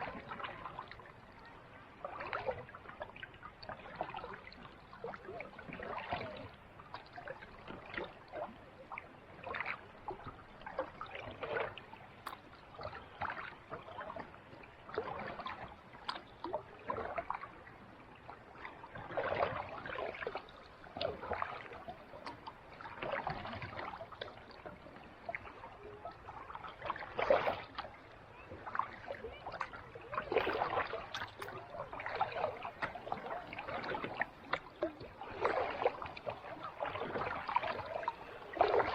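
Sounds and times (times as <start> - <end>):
kayak paddle splashing: 0.0 - 38.9
water trickling off paddle: 0.0 - 38.9.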